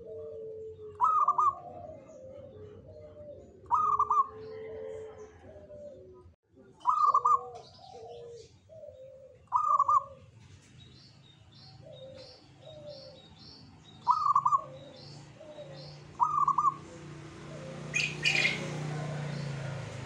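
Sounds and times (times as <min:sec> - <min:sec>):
dove cooing: 0:00.0 - 0:10.4, 0:11.5 - 0:20.0.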